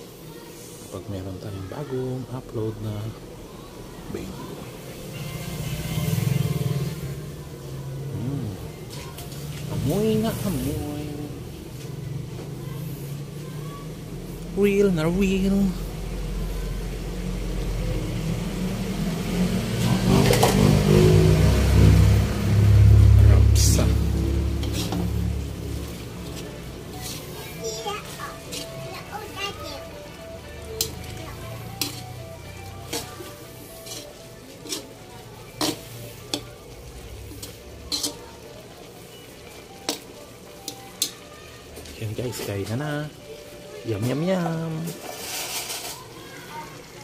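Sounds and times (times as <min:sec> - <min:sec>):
pan simmering on stove: 0:00.0 - 0:47.0.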